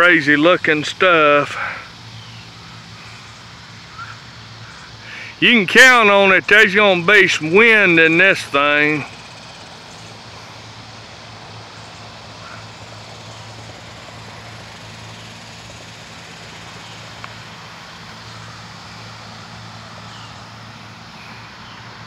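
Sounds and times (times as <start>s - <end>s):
even hiss: 0.0s - 22.0s.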